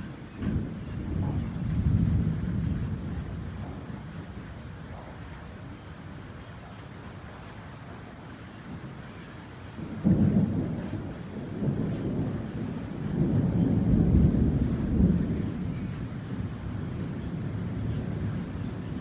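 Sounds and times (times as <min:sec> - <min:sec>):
thunder crack and rumble: 0:00.0 - 0:05.8, 0:08.7 - 0:19.0
steady rain: 0:00.0 - 0:19.0.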